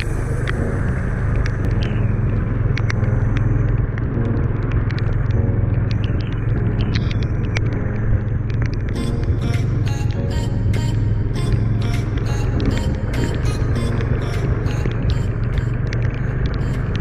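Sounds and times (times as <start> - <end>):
motorcycle engine running: 0.0 - 17.0
sharp clicks and ticks: 0.0 - 17.0.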